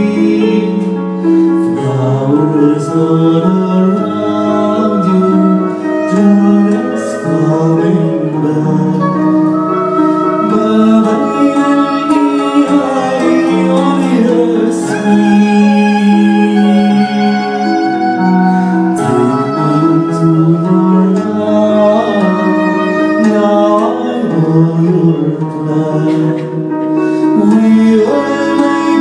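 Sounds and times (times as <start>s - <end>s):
live band melodic held notes: 0.0s - 29.0s.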